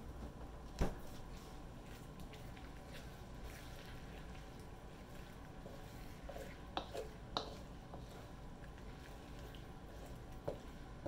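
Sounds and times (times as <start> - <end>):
wet squishing of stirred food: 0.6 - 11.0
wooden spatula scraping a pan: 1.1 - 11.0.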